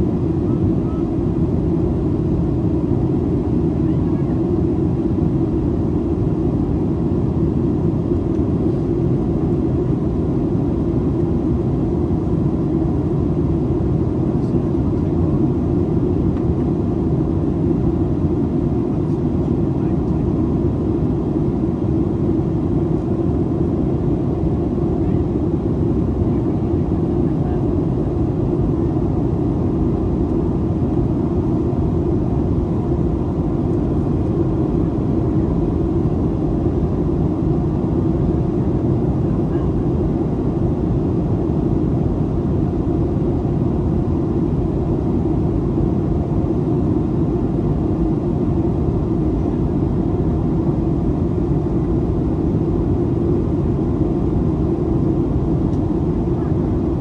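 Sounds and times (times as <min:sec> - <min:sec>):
airplane cabin rumble: 0:00.0 - 0:57.0
jet engine hum: 0:00.0 - 0:57.0.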